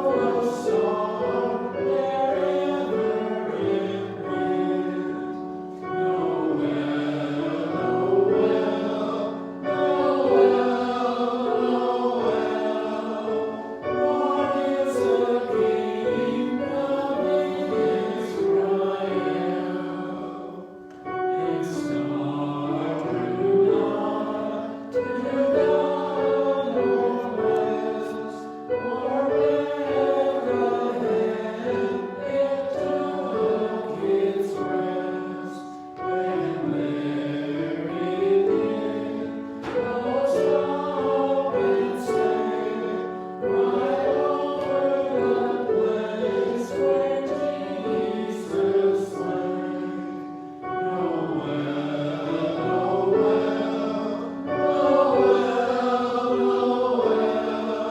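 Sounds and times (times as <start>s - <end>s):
choir singing a hymn: 0.0s - 57.9s.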